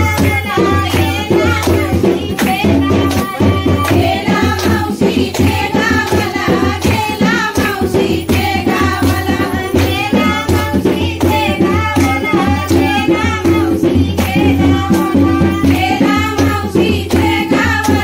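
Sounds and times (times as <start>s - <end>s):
hand clapping: 0.0s - 18.0s
women singing: 0.0s - 18.0s.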